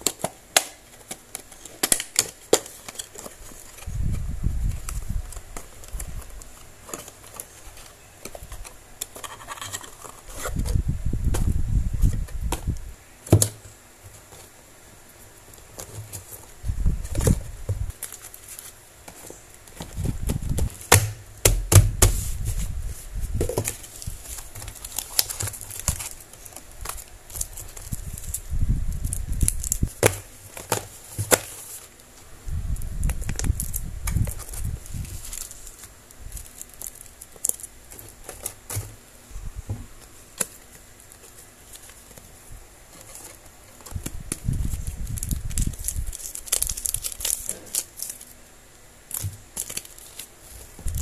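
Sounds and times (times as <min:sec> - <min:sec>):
packets crinkling and rustling: 0:00.0 - 0:12.8, 0:13.4 - 0:39.1, 0:39.7 - 0:51.0.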